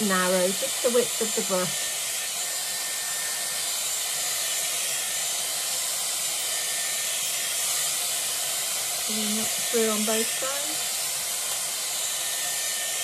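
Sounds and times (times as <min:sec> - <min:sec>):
hair styler blowing air: 0:00.0 - 0:13.0.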